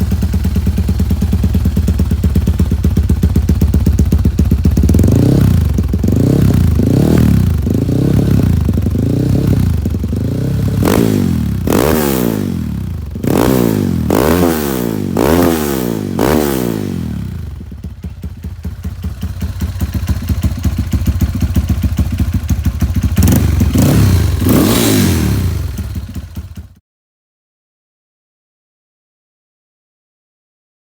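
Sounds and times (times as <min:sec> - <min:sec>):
motorcycle engine revving and idling: 0:00.0 - 0:26.8.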